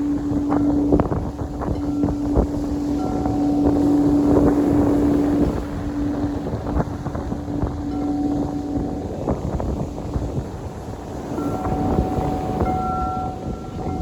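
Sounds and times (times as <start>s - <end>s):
singing bowl ringing: 0.0s - 14.0s
wind buffeting microphone: 0.0s - 14.0s.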